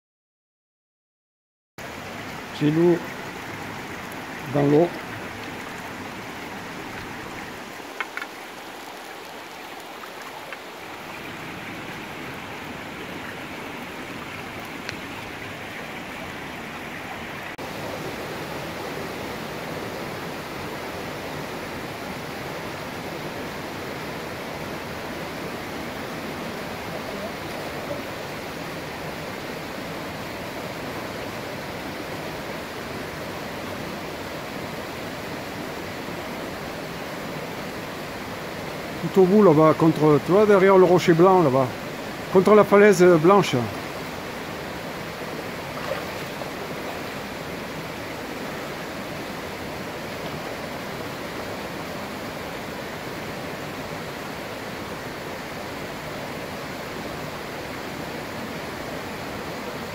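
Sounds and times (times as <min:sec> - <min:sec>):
creek rushing over rocks: 0:01.8 - 0:59.9.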